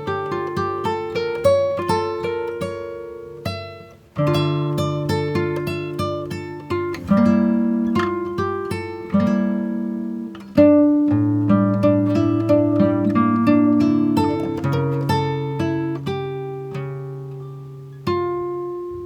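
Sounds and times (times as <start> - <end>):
acoustic guitar playing: 0.0 - 19.0.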